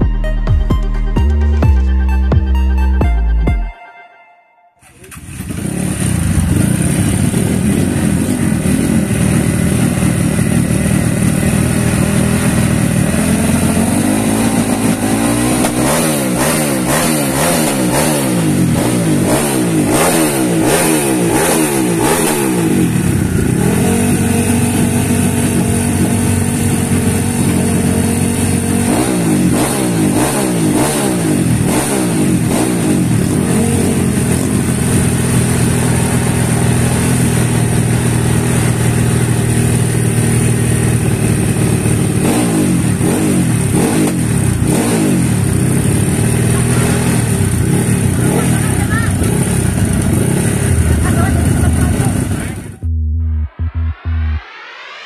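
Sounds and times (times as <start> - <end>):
motocross bike engine revving: 4.8 - 52.8.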